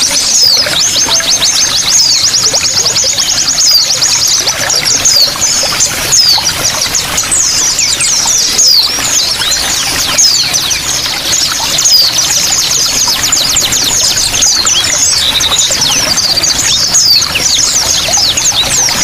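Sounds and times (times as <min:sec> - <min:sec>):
songbirds singing: 0:00.0 - 0:19.0
trickling water: 0:00.0 - 0:19.0.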